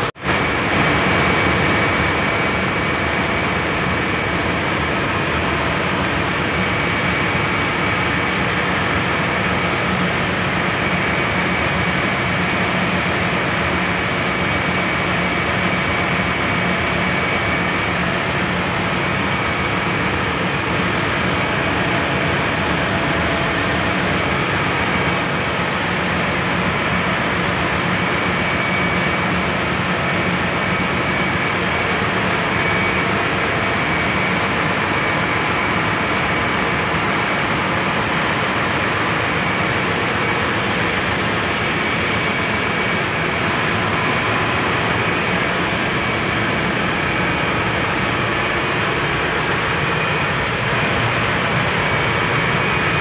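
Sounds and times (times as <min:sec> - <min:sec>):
engine room machinery roar: 0:00.0 - 0:53.0
incinerator burner firing: 0:00.0 - 0:53.0
faint steady whine: 0:00.3 - 0:53.0.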